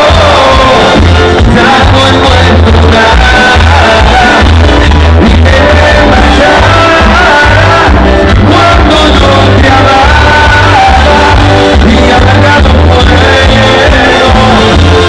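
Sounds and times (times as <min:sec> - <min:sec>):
loud music with singing: 0:00.0 - 0:15.0
pulsing bass line: 0:00.0 - 0:15.0.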